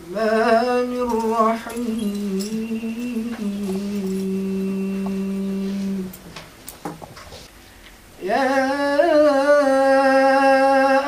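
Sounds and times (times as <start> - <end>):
man reciting melodically: 0.0 - 6.3, 8.2 - 11.0.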